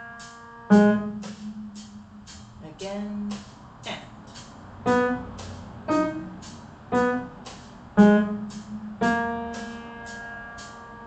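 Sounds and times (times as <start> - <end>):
metronome ticking: 0.0 - 11.0.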